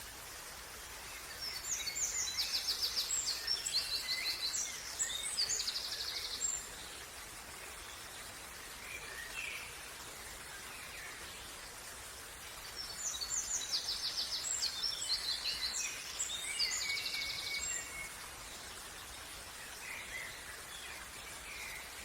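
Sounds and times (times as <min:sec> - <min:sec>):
faint outdoor hiss: 0:00.0 - 0:22.0
songbirds chirping and trilling: 0:00.8 - 0:22.0.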